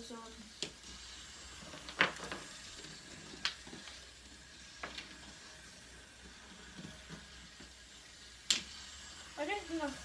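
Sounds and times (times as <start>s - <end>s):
dominoes clicking: 0.0s - 10.0s.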